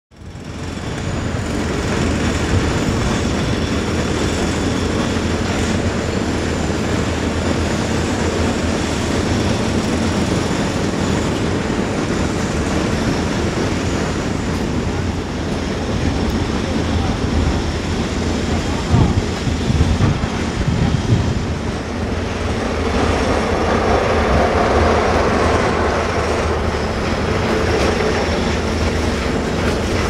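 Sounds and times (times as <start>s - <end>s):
construction site rumble: 0.1s - 30.0s
heavy diesel machinery running: 0.1s - 30.0s.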